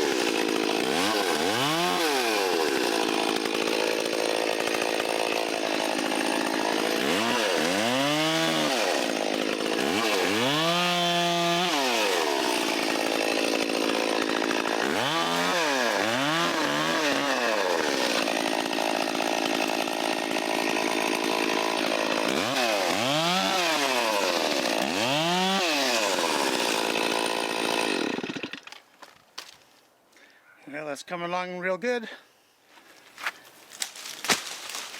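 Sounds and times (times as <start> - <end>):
chainsaw cutting branches: 0.0 - 29.6, 33.2 - 34.9.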